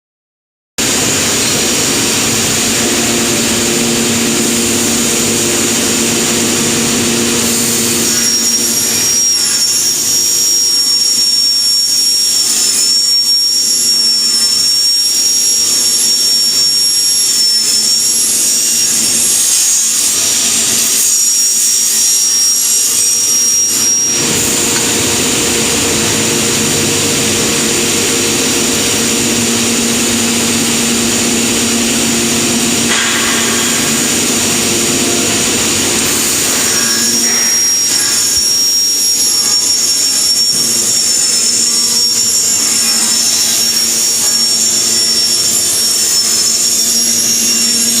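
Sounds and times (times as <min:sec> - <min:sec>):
cutting machine motor humming: 0:00.8 - 0:48.0
high wavering whine: 0:00.8 - 0:48.0.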